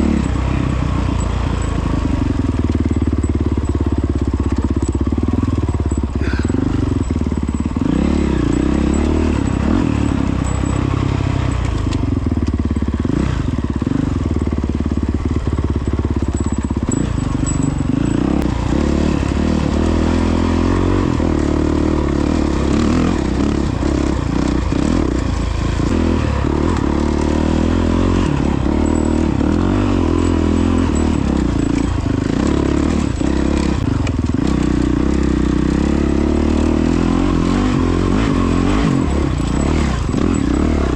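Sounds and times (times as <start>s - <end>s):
clatter: 0.0s - 40.9s
dirt bike engine revving: 0.0s - 40.9s.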